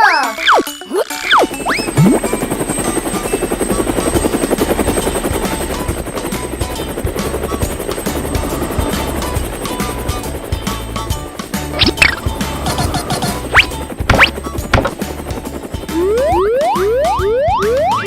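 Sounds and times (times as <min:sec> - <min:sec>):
background music: 0:00.0 - 0:18.0
helicopter rotor chopping: 0:01.1 - 0:17.9.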